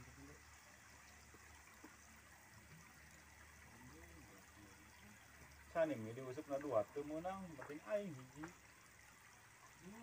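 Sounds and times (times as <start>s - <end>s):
faint distant voices: 0.0s - 9.0s
faint outdoor hiss: 0.0s - 10.0s.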